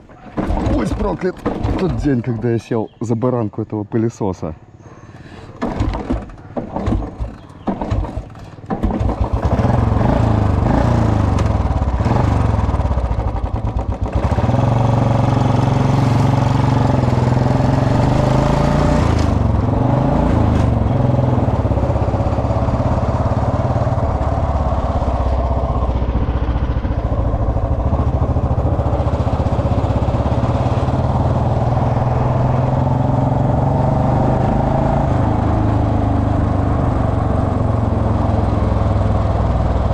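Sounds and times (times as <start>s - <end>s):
motorcycle engine sputtering and running: 0.0s - 2.3s, 5.6s - 39.9s.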